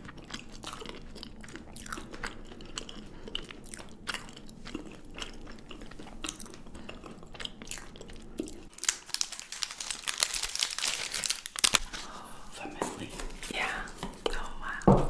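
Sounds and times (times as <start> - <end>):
chewing and crunching chocolate: 0.0 - 12.3.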